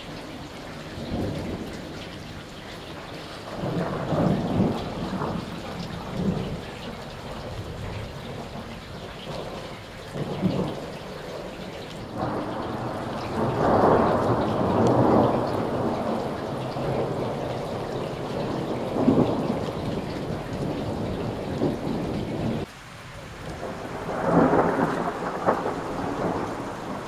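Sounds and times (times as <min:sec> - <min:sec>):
steady rain: 0:00.0 - 0:27.0
rolling thunder: 0:03.4 - 0:22.7, 0:23.3 - 0:27.0.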